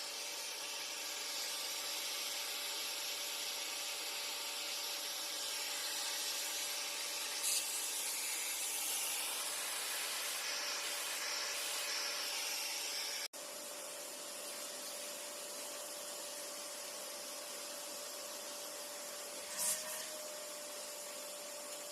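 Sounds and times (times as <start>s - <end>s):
vacuum cleaner suction hiss: 0.0s - 21.9s.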